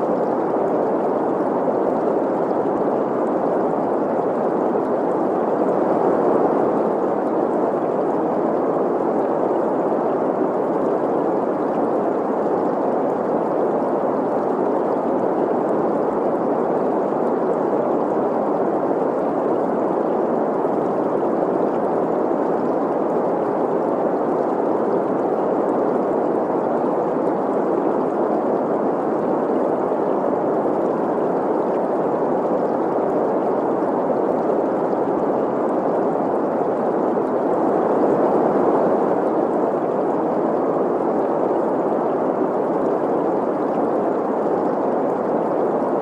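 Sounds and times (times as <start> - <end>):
flowing stream: 0.0 - 46.0.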